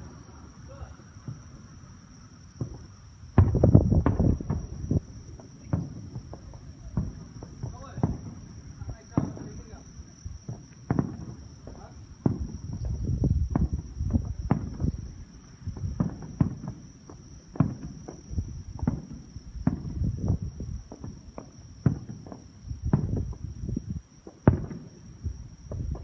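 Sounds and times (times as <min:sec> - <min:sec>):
fireworks bangs and pops: 0:00.0 - 0:26.0.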